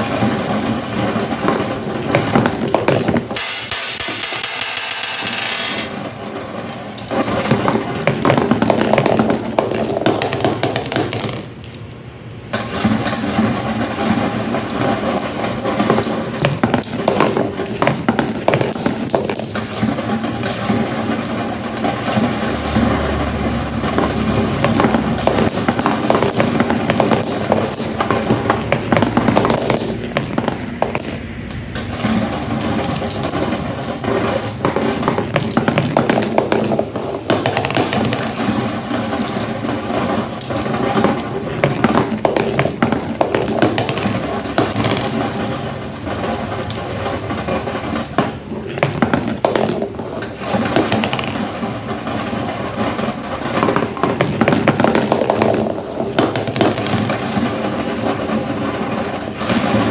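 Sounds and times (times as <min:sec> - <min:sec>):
marbles rattling down a marble run: 0:00.0 - 0:12.0, 0:12.6 - 0:59.9.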